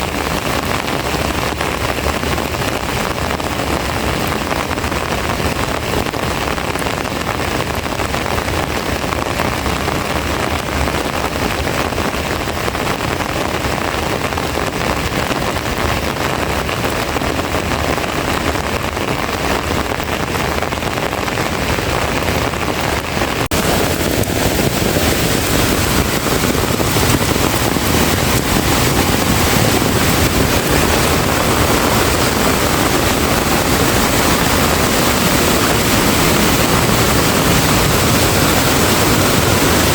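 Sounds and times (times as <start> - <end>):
heavy rain in strong wind: 0.0 - 39.9.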